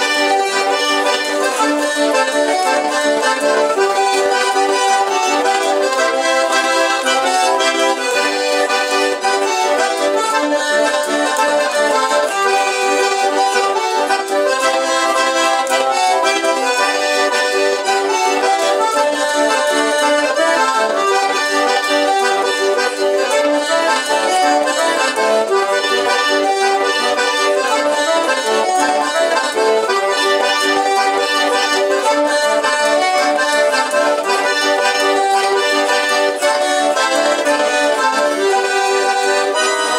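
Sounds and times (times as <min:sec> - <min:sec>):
button accordions playing: 0:00.0 - 0:39.9.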